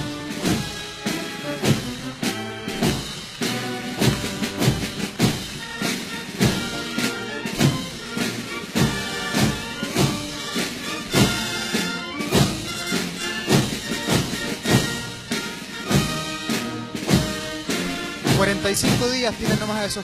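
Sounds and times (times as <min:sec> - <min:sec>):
marching band music: 0:00.0 - 0:20.0.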